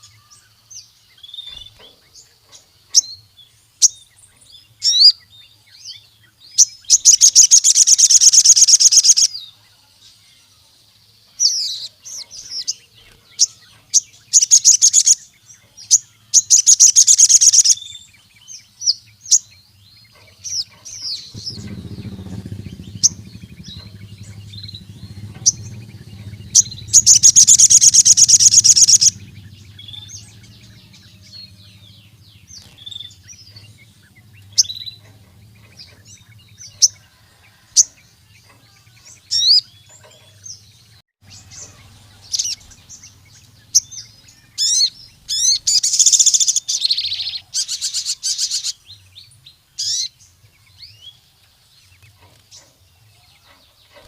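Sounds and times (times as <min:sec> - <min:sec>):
sunbird chirping and trilling: 0:00.0 - 0:54.0.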